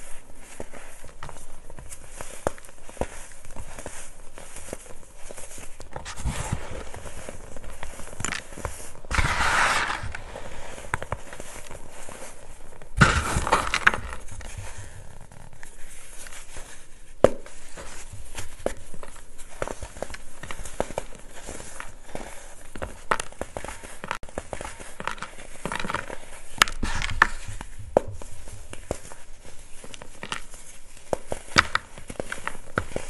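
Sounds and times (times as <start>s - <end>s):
hands crushing powder clumps: 0.0s - 33.0s.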